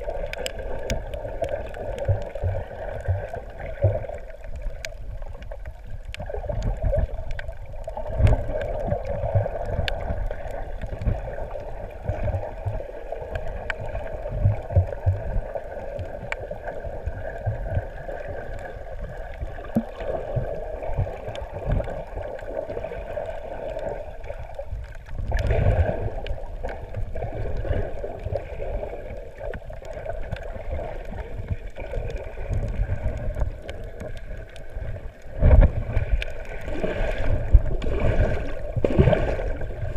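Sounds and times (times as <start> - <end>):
muffled water movement: 0.0 - 39.9
underwater droning hum: 0.0 - 39.9.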